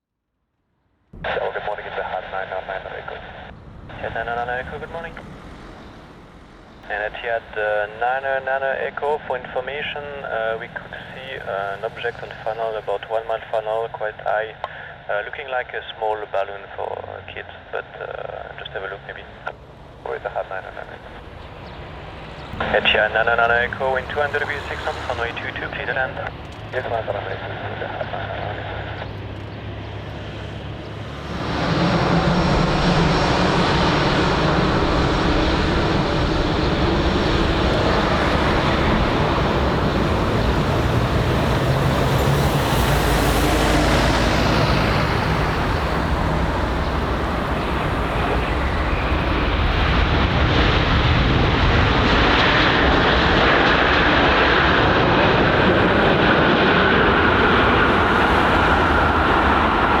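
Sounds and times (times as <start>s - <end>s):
high-pitched engine whine: 1.2s - 13.4s, 19.0s - 60.0s
jet engines roaring: 1.2s - 14.9s, 18.0s - 60.0s.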